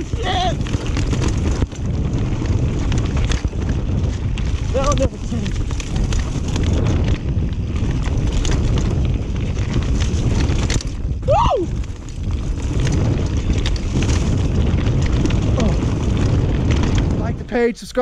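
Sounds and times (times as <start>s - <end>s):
bike clicks and rattles: 0.0s - 18.0s
bike tyres rumbling on dirt: 0.0s - 18.0s
wind buffeting microphone: 0.0s - 18.0s.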